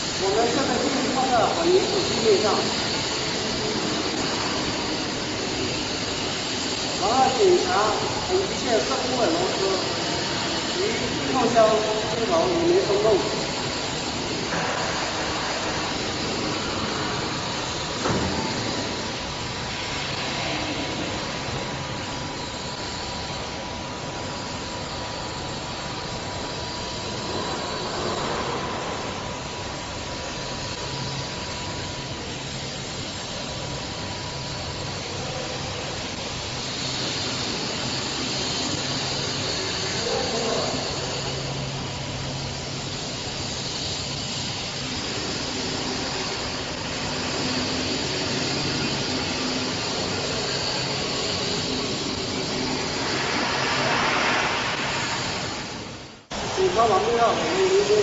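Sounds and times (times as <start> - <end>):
low machinery hum: 0.0 - 58.0
steady hiss: 0.0 - 58.0.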